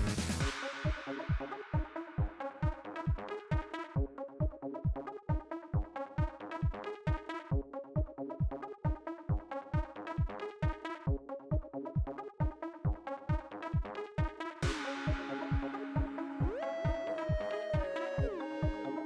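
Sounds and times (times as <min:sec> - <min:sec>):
electronic dance music: 0:00.0 - 0:11.2, 0:12.0 - 0:19.0.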